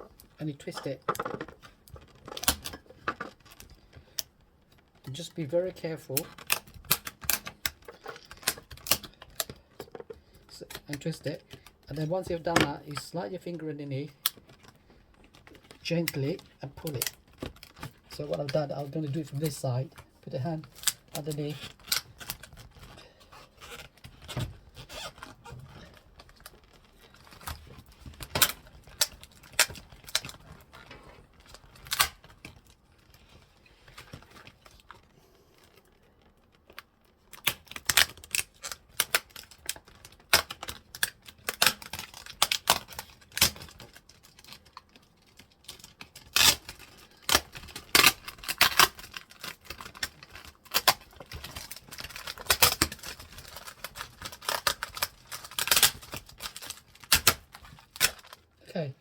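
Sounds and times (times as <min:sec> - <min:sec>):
plastic clicks and cracks: 0:00.0 - 0:05.2, 0:05.8 - 0:13.0, 0:14.0 - 0:58.5.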